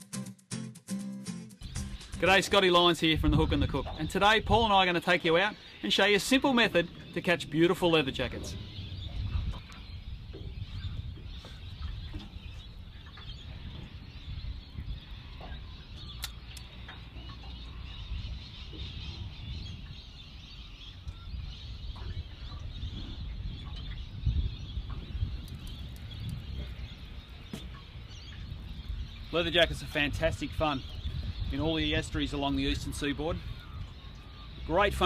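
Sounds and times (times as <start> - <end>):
birds calling: 1.6 - 35.0
low wind rumble: 1.6 - 35.0.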